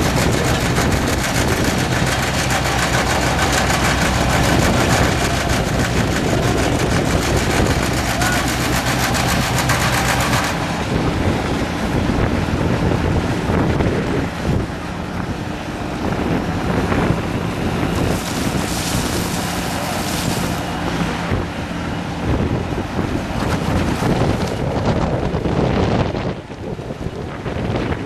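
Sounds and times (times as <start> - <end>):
diesel engines running: 0.0 - 28.0
wind buffeting microphone: 0.0 - 28.0.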